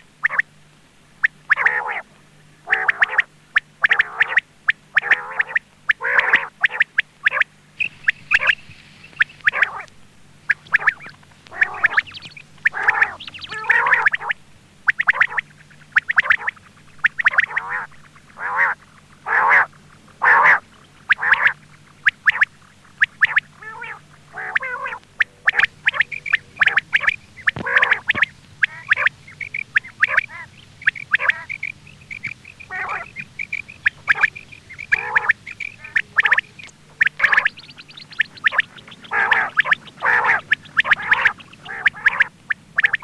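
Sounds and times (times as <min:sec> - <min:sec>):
quail calling: 0:00.0 - 0:00.6, 0:01.2 - 0:43.0
faint steady hum: 0:00.0 - 0:43.0.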